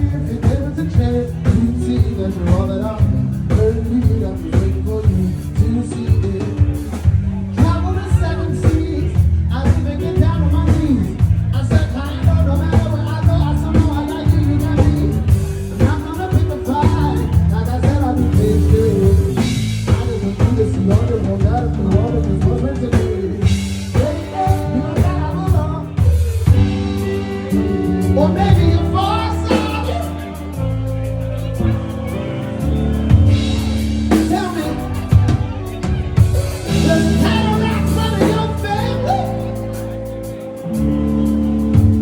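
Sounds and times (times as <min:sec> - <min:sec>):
bass: 0:00.0 - 0:42.0
live rock band playing: 0:00.0 - 0:42.0
steady drum beat: 0:00.0 - 0:42.0.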